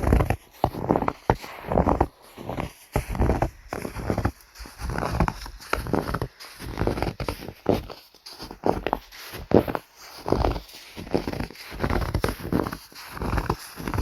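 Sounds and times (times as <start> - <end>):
footsteps crunching through snow: 0.0 - 14.0.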